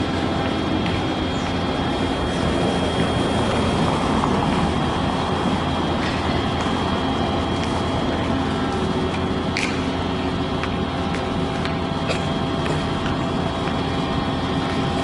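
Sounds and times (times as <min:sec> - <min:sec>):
light rail train rolling: 0:00.0 - 0:15.0.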